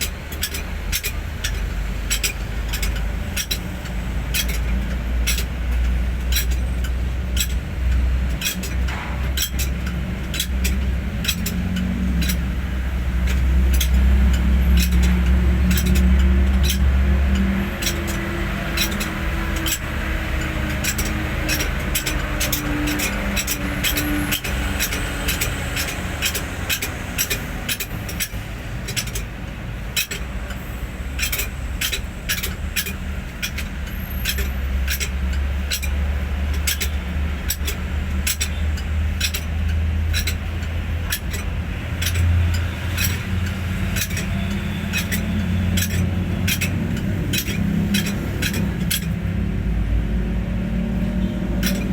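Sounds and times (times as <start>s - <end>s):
diesel truck engine running: 0.0s - 51.9s.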